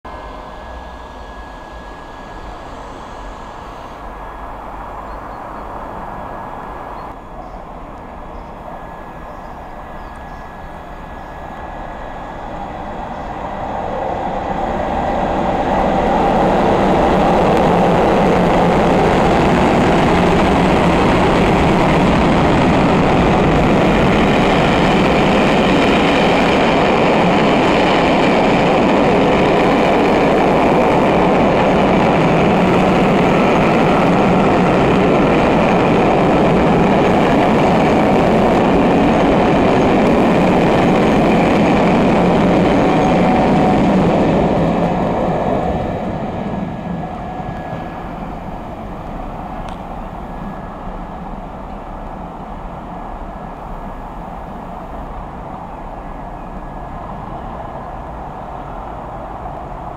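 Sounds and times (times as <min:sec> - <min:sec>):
diesel locomotive: 0:00.0 - 0:59.9
train wheels rumbling on rails: 0:00.1 - 0:59.9.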